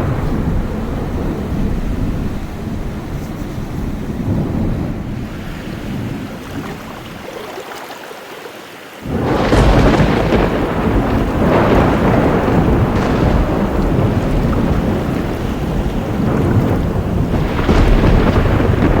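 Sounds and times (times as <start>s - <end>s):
loud thunderclap: 0.0s - 7.1s, 9.0s - 19.0s
low thunder rumble: 0.0s - 7.3s, 9.0s - 19.0s
heavy rain: 0.0s - 7.9s, 8.8s - 19.0s.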